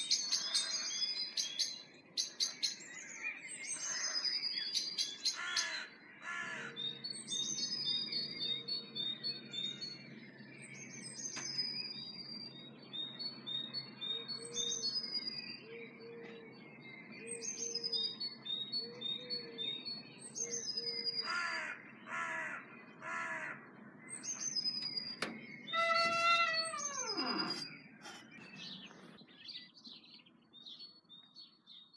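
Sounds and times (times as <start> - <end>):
harsh falling bird calls: 0.0 - 31.7.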